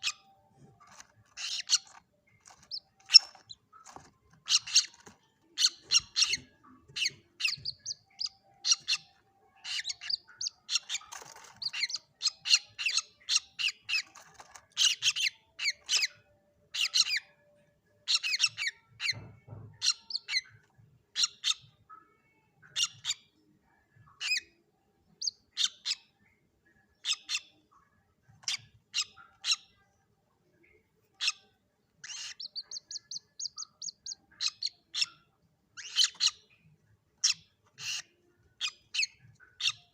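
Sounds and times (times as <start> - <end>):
bird chicks peeping: 0.0 - 39.9.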